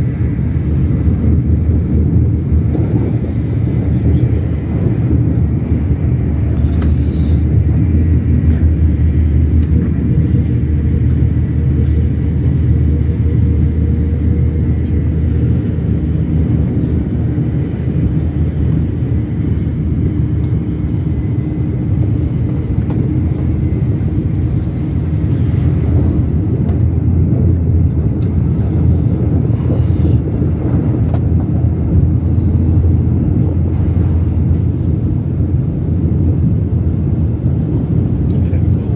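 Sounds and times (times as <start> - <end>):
train low rumble: 0.0 - 38.9.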